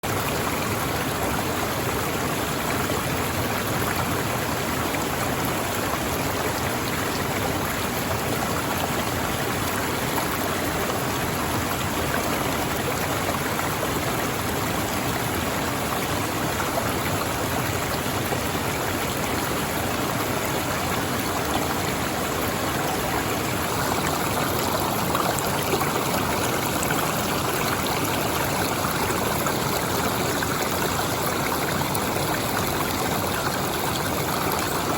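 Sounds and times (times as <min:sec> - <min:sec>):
stream water rushing over falls: 0:00.0 - 0:34.9.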